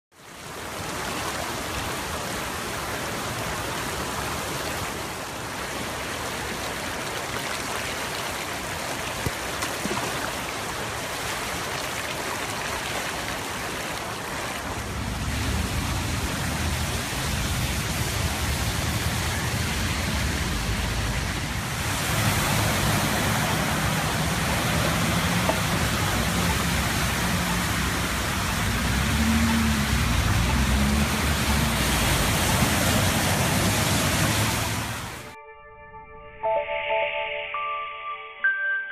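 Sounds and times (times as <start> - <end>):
fast-running floodwater: 0.1 - 35.4.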